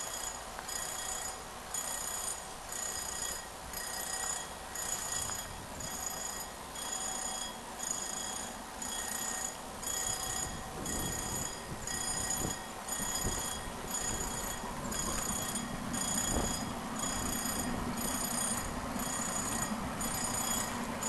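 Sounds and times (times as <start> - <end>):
railway warning bell ringing: 0.0 - 21.0.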